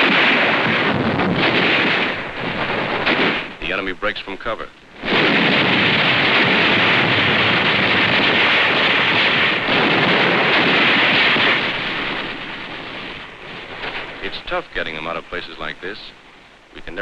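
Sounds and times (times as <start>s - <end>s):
battle gunfire and blasts: 0.0s - 4.4s, 5.0s - 16.2s.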